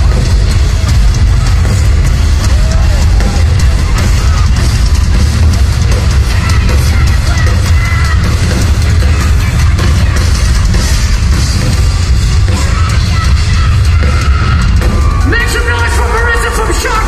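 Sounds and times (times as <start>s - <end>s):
pounding drums: 0.0s - 17.0s
rock band playing loud: 0.0s - 17.0s.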